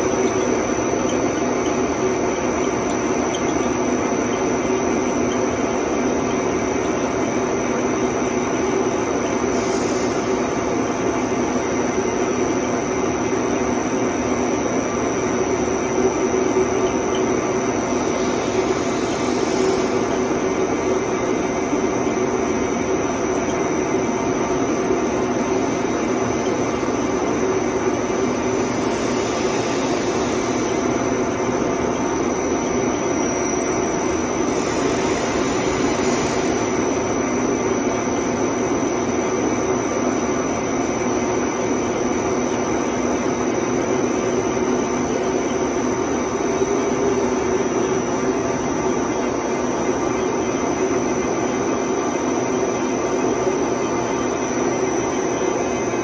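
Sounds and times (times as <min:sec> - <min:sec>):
lathe hum with high whine: 0:00.0 - 0:56.0.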